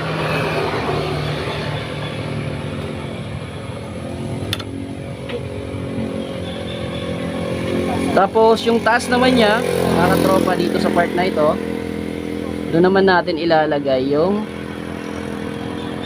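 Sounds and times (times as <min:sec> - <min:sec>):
motorcycle engine idling: 0:01.4 - 0:16.0.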